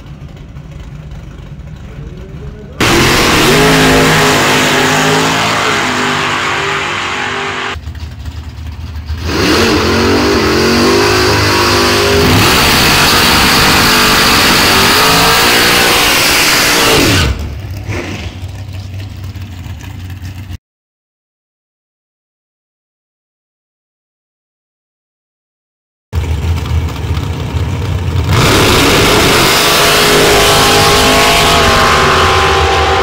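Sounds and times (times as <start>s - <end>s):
drag racing car engine revving: 0.0s - 20.5s, 26.2s - 33.0s.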